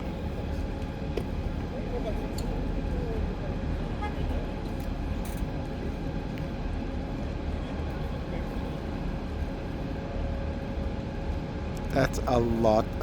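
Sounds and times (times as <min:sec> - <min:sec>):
murmur of distant voices: 0:00.0 - 0:13.0.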